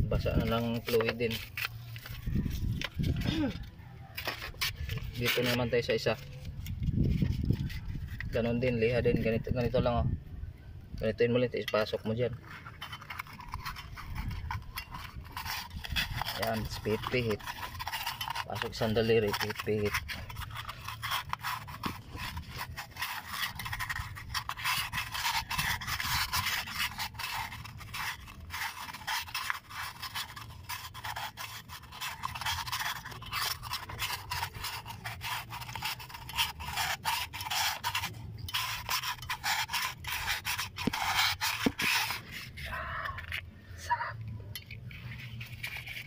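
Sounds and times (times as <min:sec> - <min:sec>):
sandpaper scraping inside cylinder: 0:00.0 - 0:10.2, 0:11.0 - 0:46.0.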